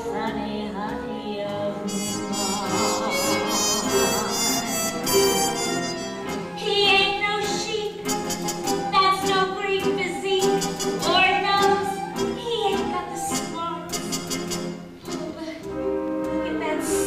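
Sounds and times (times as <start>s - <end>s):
jazzy band playing show tune: 0.0s - 17.0s.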